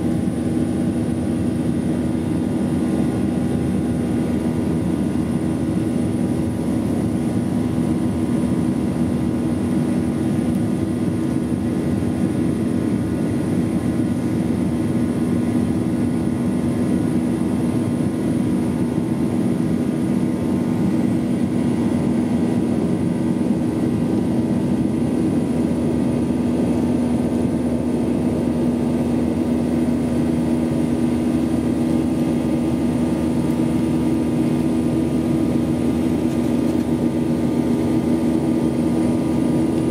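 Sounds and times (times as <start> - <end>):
airliner engines droning: 0.0 - 39.9.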